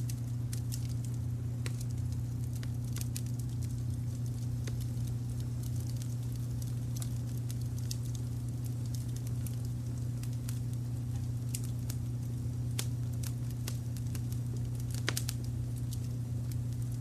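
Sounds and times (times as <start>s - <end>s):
low rumble of brown noise: 0.0s - 17.0s
wood fire crackling and popping: 0.0s - 17.0s.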